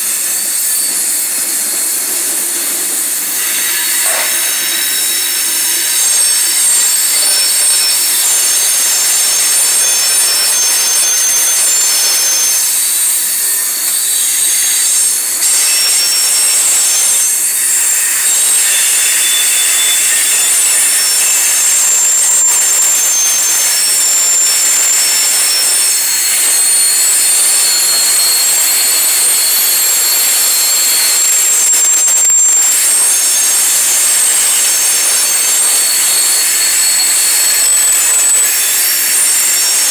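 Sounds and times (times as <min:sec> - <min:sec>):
train wheels screeching on rails: 0:00.0 - 0:39.9.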